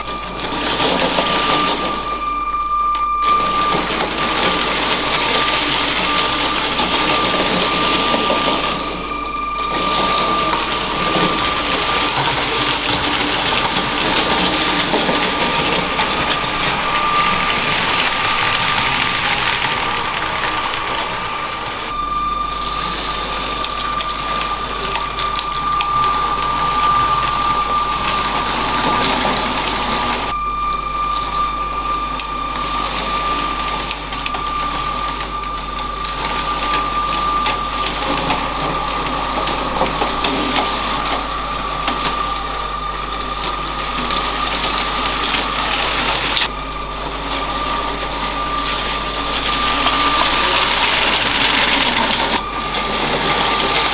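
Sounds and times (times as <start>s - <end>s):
electric motor whine: 0.0s - 53.9s
toy train wheels rattling on track: 2.9s - 21.9s, 22.6s - 30.3s, 32.1s - 53.9s.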